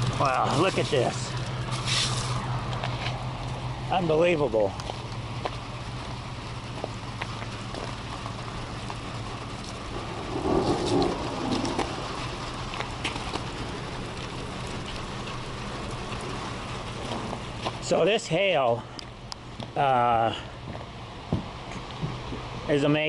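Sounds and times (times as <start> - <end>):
low engine hum: 0.0 - 23.0
rain pattering on a truck: 0.0 - 23.0.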